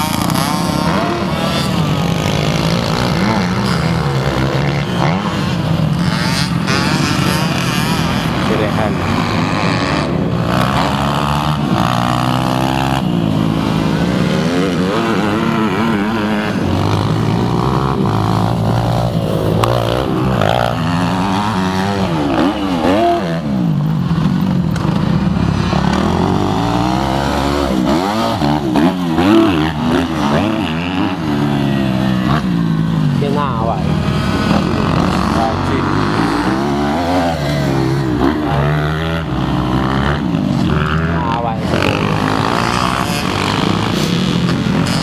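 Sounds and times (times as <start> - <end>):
motocross bikes revving: 0.0 - 45.0.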